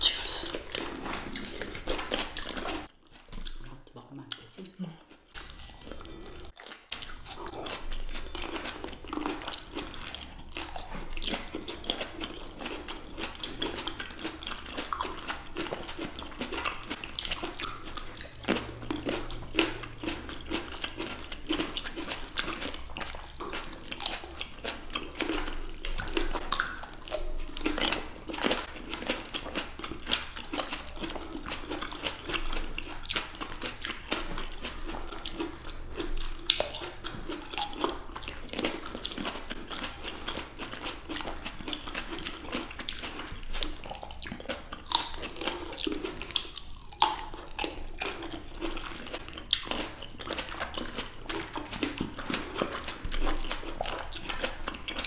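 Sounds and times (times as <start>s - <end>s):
biting and chewing grapes: 0.0s - 55.0s.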